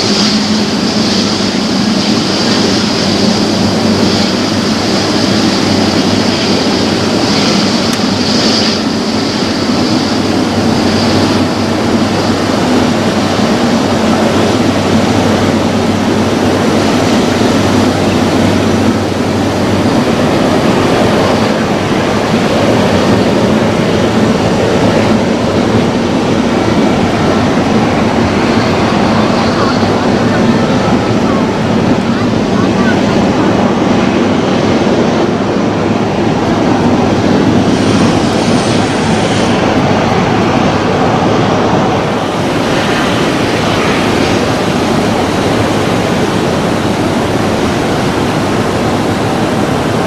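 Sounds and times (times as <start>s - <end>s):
high jet whine: 0.0s - 50.0s
jet engines roaring: 0.0s - 50.0s.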